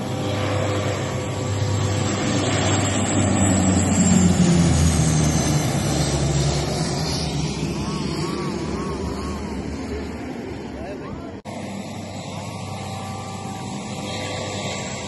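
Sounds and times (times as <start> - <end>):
propeller plane passing low overhead: 0.0 - 15.0.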